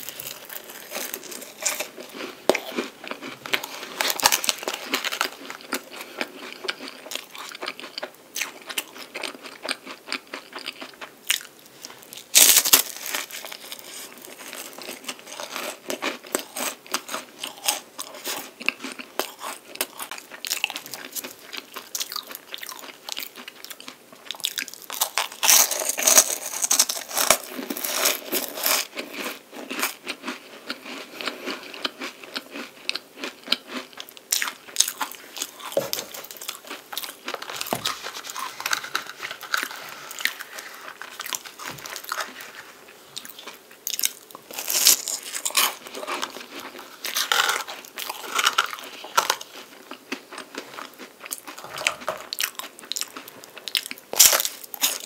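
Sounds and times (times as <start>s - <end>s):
crunching puff pastry: 0.0s - 55.0s.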